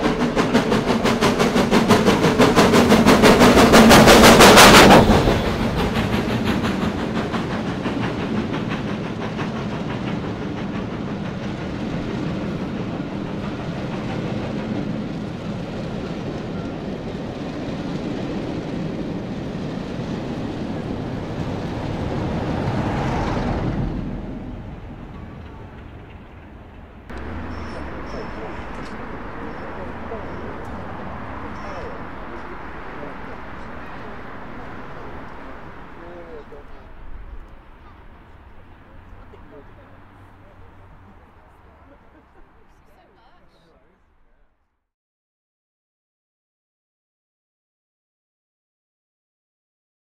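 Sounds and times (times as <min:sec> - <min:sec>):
steam locomotive exhaust beats: 0:00.0 - 0:42.3
train coaches rumbling on rails: 0:00.0 - 0:43.3.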